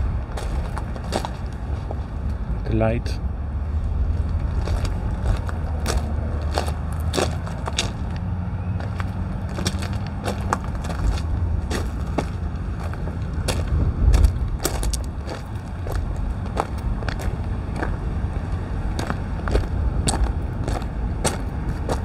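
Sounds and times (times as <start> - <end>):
diesel locomotives idling: 0.0 - 22.0
footsteps crunching on gravel: 0.3 - 2.1, 4.1 - 22.0.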